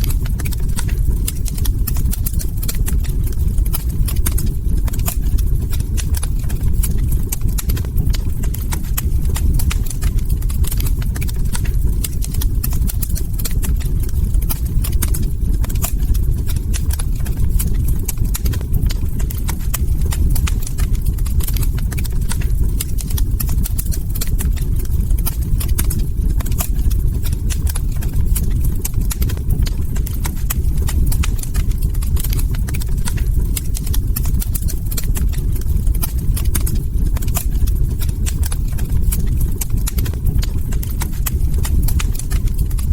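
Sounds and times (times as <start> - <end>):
log fire crackling: 0.0 - 42.9.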